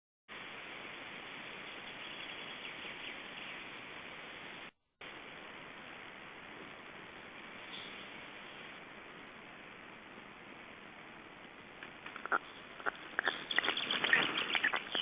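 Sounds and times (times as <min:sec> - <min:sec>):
steady microphone hiss: 0:00.3 - 0:15.0.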